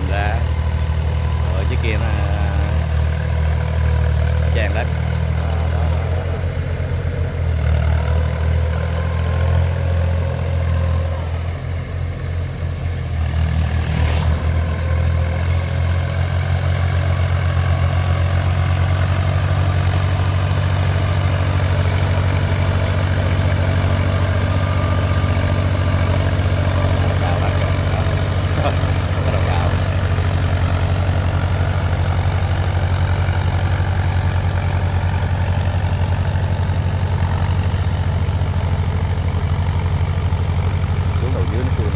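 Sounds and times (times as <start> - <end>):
tractor engine under load: 0.0 - 41.9.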